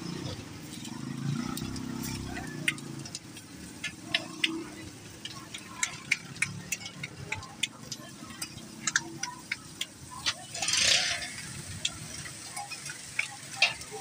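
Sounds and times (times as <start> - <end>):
food sizzling: 0.0 - 14.0
spatulas tapping on griddle: 2.0 - 14.0.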